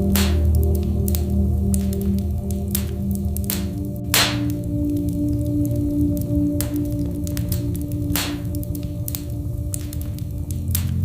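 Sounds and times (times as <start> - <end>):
fire pops: 0.0 - 11.0
soft ambient music: 0.0 - 11.0
wood fire crackling: 0.0 - 11.0.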